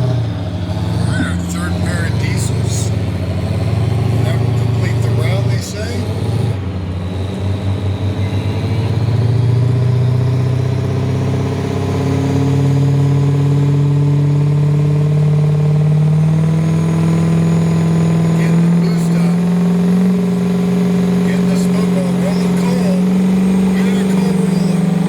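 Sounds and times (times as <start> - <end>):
truck engine running loud: 0.0 - 25.0.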